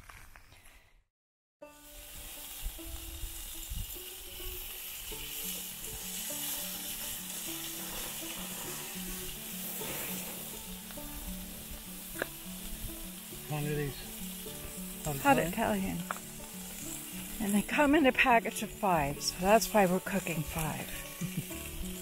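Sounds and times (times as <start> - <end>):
sausages sizzling on a grill: 1.6 - 22.0
stepping music notes: 1.8 - 22.0.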